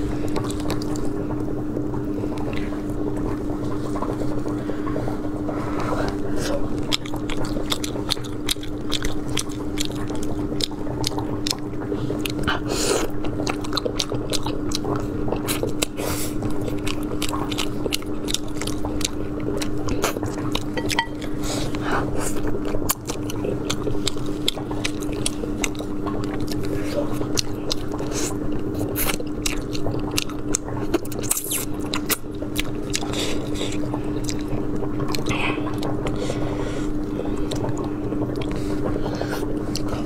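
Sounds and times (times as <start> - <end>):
steady low hum: 0.0 - 40.0
wet chewing and biting: 0.1 - 4.6, 6.1 - 40.0.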